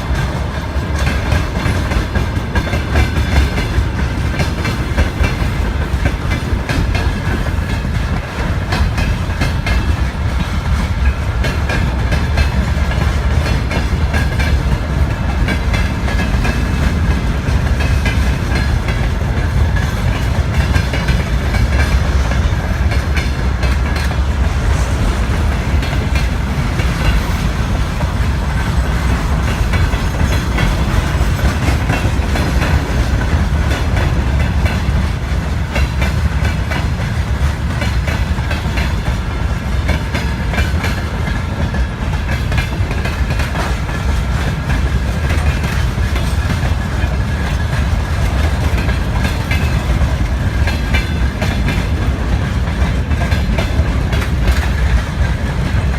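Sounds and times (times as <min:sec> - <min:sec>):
freight train wagons rolling: 0:00.0 - 0:55.9
wheels clacking over rail joints: 0:00.0 - 0:55.9.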